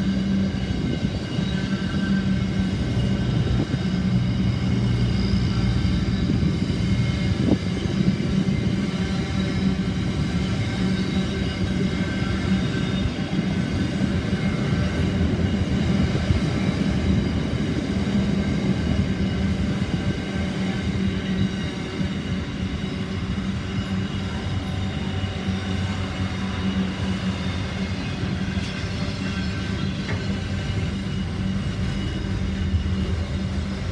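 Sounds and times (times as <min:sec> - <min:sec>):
diesel locomotive engine drone: 0:00.0 - 0:33.9
rail rumble: 0:00.0 - 0:33.9.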